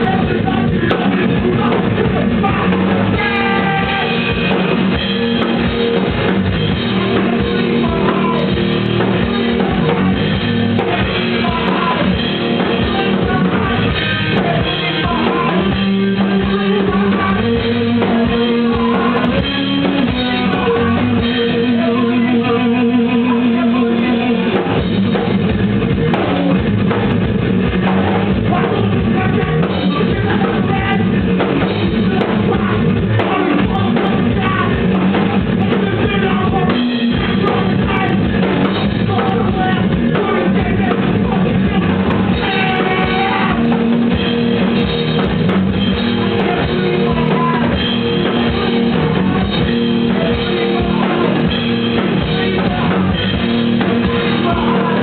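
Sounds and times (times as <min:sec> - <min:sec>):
person singing: 0:00.0 - 0:25.0, 0:27.8 - 0:45.3, 0:45.9 - 0:55.0
punk band playing loud: 0:00.0 - 0:55.0.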